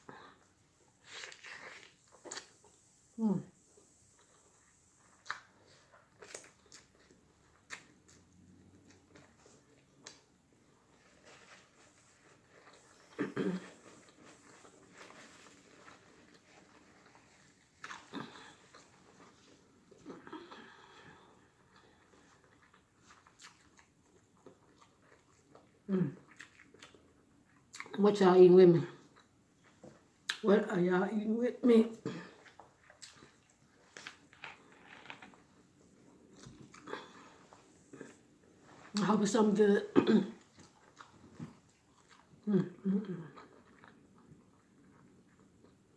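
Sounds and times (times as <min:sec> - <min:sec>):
person chewing: 0:00.2 - 0:02.8, 0:04.1 - 0:10.3, 0:11.0 - 0:28.0, 0:32.1 - 0:38.9, 0:40.4 - 0:45.9.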